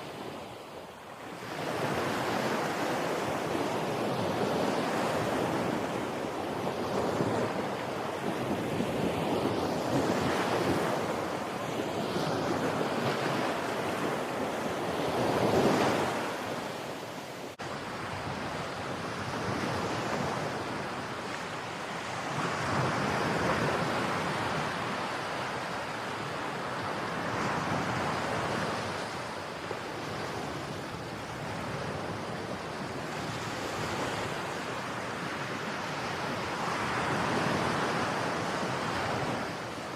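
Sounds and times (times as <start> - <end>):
ocean waves rolling in: 0.0 - 39.9
wind: 0.0 - 39.9.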